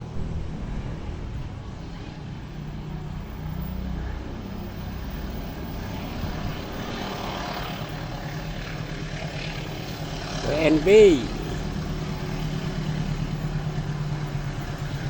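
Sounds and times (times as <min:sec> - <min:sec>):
approaching train rushing: 0:00.0 - 0:15.0
diesel locomotive engine drone: 0:00.0 - 0:15.0.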